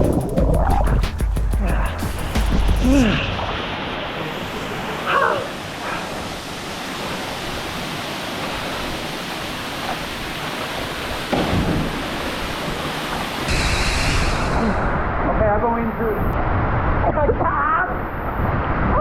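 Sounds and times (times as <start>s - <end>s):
waterfall rushing: 0.8s - 16.0s.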